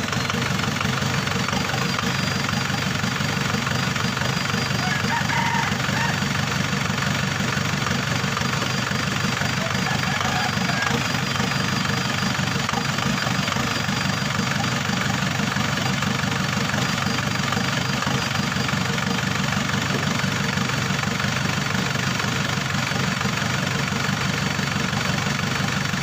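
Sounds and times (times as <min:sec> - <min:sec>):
diesel engine idling with misfire: 0:00.0 - 0:26.0.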